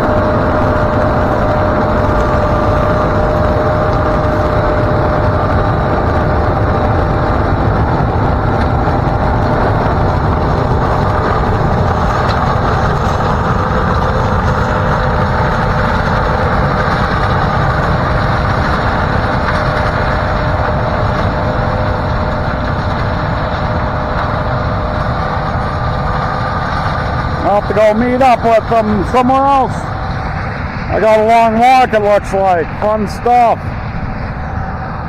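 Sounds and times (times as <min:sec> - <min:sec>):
combine harvester machinery running: 0:00.0 - 0:35.0
constant machine whine: 0:00.0 - 0:35.0.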